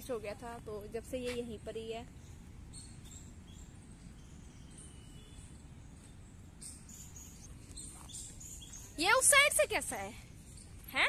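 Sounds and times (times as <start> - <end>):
faint bird chirps: 1.7 - 11.0.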